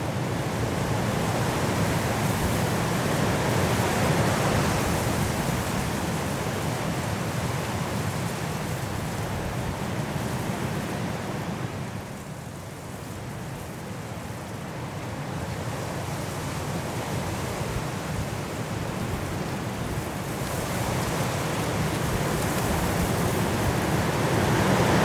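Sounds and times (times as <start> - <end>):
strong wind through trees: 0.0 - 25.0.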